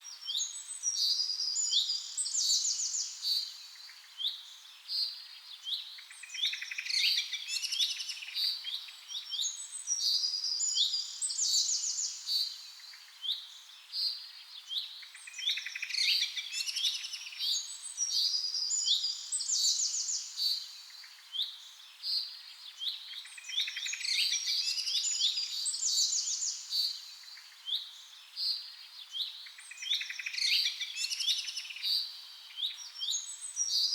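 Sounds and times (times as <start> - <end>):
songbirds chirping and trilling: 0.0 - 33.9.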